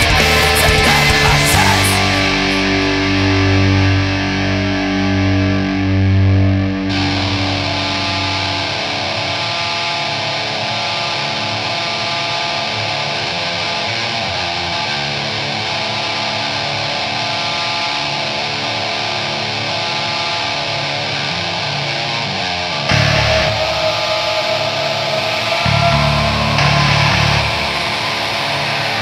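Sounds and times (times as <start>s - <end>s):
black metal song: 0.0s - 29.0s.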